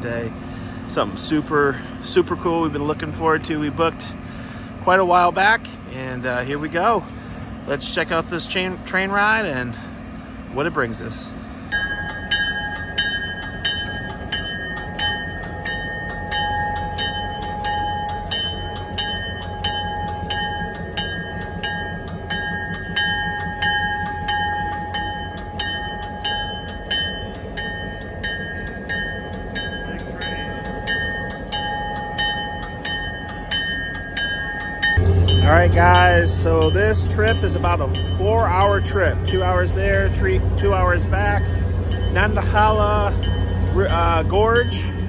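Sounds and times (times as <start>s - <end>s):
diesel locomotive rumble: 0.0s - 45.0s
locomotive bell ringing: 0.0s - 45.0s.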